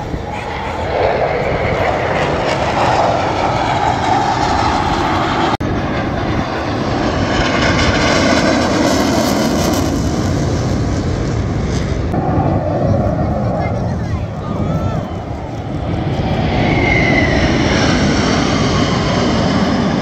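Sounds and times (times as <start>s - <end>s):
jets roaring overhead: 0.0s - 20.0s.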